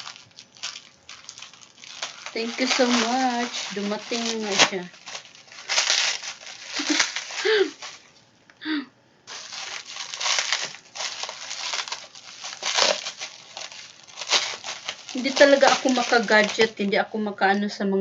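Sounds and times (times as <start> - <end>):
packaging crinkling and rustling: 0.0 - 8.2, 9.3 - 17.6.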